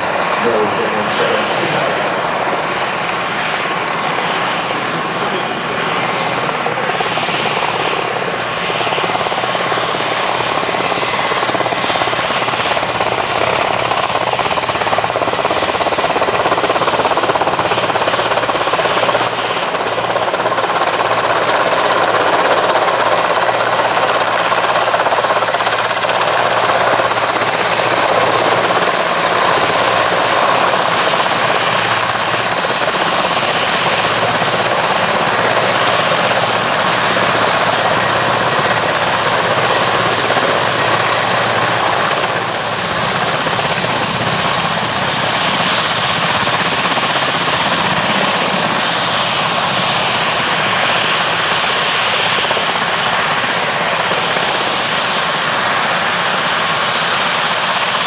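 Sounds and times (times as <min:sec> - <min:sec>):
helicopters hovering: 0:00.0 - 0:58.0.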